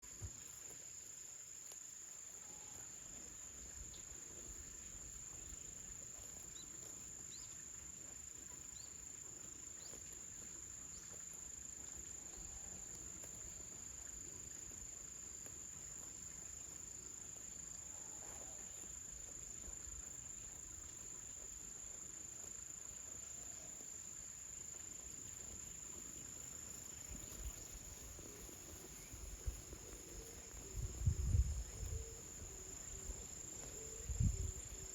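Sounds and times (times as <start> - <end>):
crickets chirring drone: 0.1 - 34.9.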